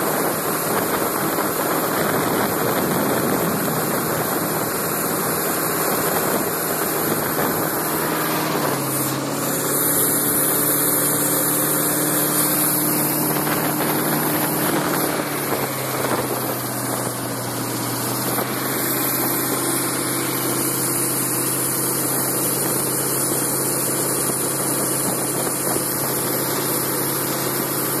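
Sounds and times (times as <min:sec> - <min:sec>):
boat engine running: 0:00.0 - 0:28.0
water and wind rushing: 0:00.0 - 0:28.0.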